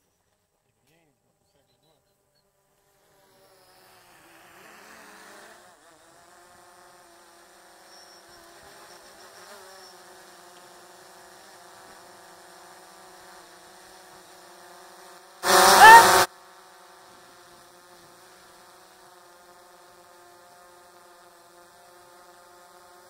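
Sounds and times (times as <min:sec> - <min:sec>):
drone propellers buzzing: 0:02.8 - 0:23.0.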